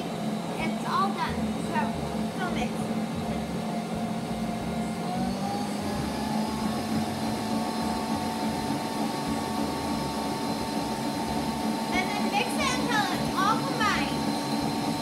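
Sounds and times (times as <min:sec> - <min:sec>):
kitchen mixer motor humming: 0:00.0 - 0:15.0.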